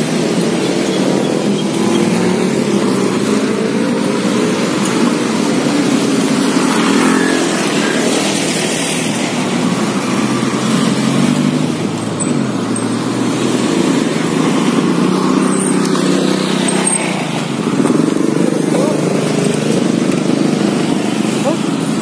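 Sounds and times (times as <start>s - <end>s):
cars passing by: 0.0s - 22.0s
scooters passing by: 0.0s - 22.0s.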